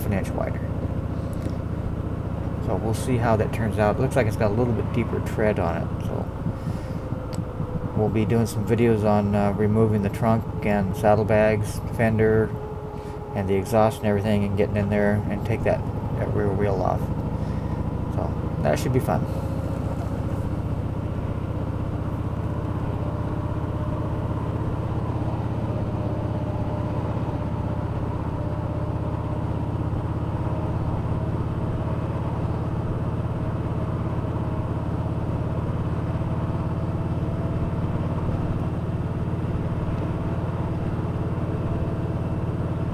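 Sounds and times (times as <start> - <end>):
motorcycle engine cruising: 0.0 - 42.9
wind and road noise: 0.0 - 42.9.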